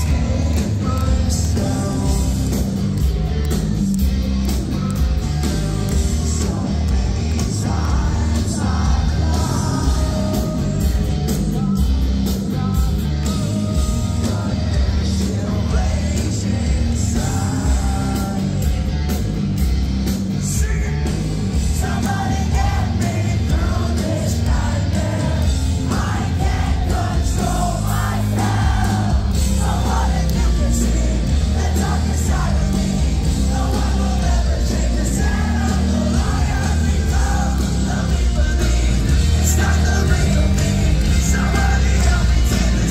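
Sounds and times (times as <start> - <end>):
man singing lead vocal: 0.0 - 2.8, 5.3 - 18.8, 20.4 - 42.9
live hard rock band: 0.0 - 42.9.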